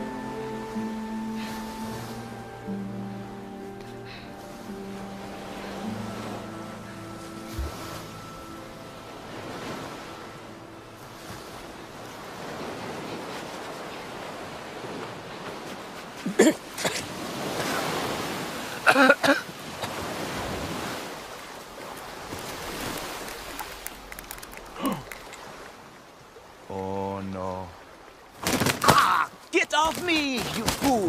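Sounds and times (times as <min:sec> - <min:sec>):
ocean surf on shore: 0:00.0 - 0:31.0.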